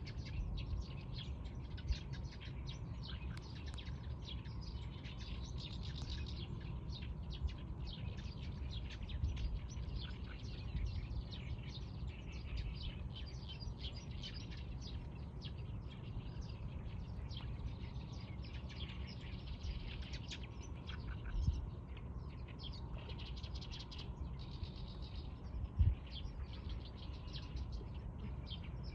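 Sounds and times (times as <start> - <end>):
small birds chirping: 0.0 - 28.9
steady low rumble: 0.0 - 28.9.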